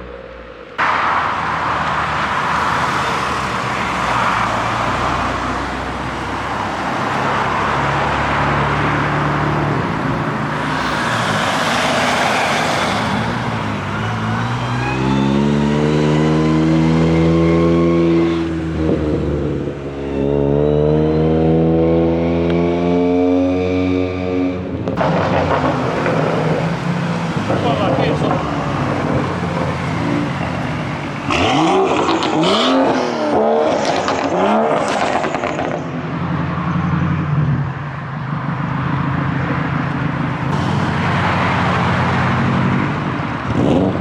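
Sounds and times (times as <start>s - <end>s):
car engine accelerating: 0.0s - 44.0s
road noise: 0.0s - 44.0s.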